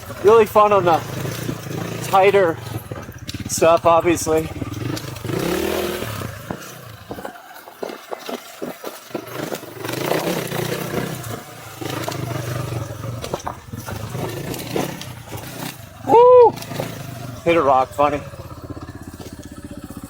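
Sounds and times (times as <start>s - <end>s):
low motor rumble: 0.0s - 7.4s, 9.7s - 20.0s
wheels knocking on rocks: 0.0s - 20.0s.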